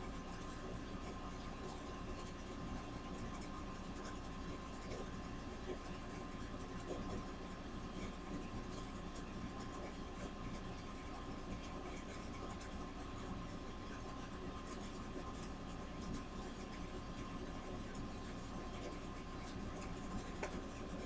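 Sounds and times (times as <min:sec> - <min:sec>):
electrical hum with whine: 0:00.0 - 0:21.0
paintbrush scratching and ticking: 0:00.1 - 0:21.0.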